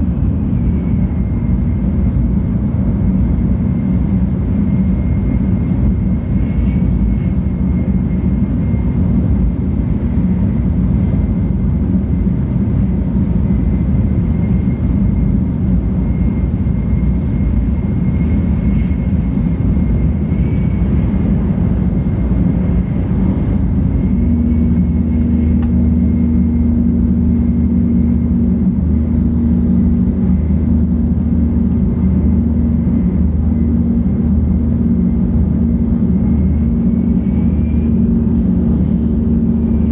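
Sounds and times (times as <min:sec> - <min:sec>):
train cabin rumble: 0:00.0 - 0:15.0, 0:15.6 - 0:39.9
faint high whine: 0:00.0 - 0:39.9.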